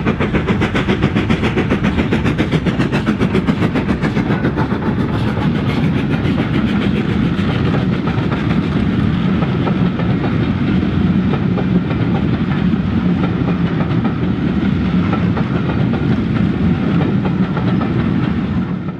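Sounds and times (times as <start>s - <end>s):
wheels clicking over rail joints: 0.0s - 18.9s.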